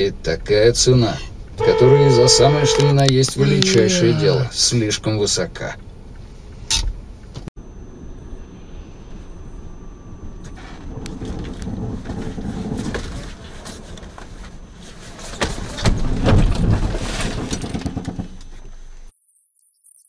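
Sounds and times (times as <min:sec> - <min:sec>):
road noise inside a car: 0:00.0 - 0:19.1.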